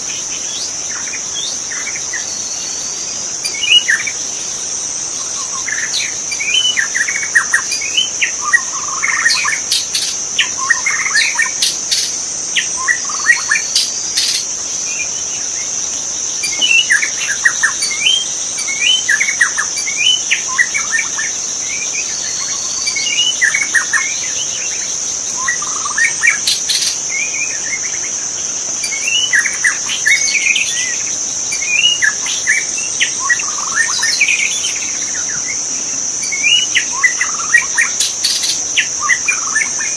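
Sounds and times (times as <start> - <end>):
high-pitched insect drone: 0.0 - 39.9.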